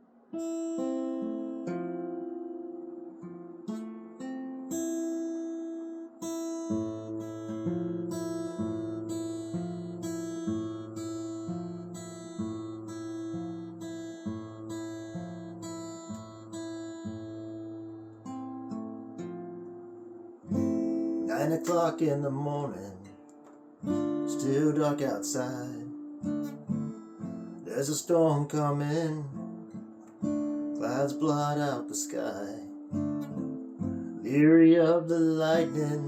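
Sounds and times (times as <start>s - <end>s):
acoustic guitar picked and strummed: 0.0s - 36.0s.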